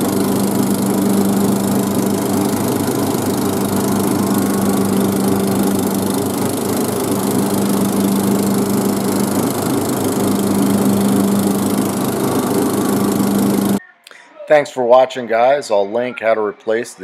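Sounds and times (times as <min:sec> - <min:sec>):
lawn tractor engine running: 0:00.0 - 0:13.8
mower deck hum: 0:00.0 - 0:13.8.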